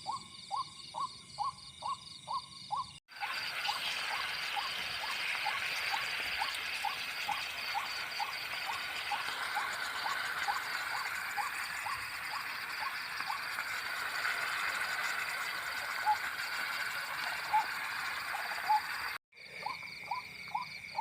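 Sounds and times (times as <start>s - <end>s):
insects humming: 0.0s - 21.0s.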